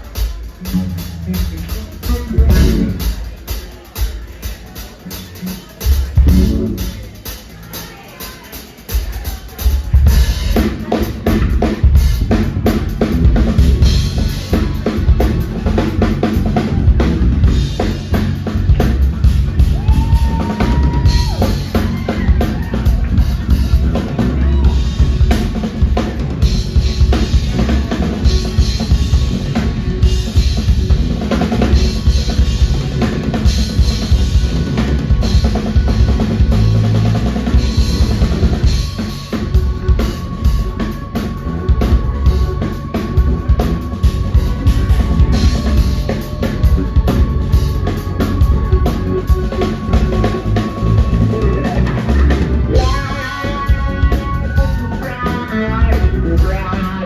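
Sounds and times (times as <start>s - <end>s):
drum kit: 0.0s - 57.0s
live band playing instrumental: 0.0s - 57.0s.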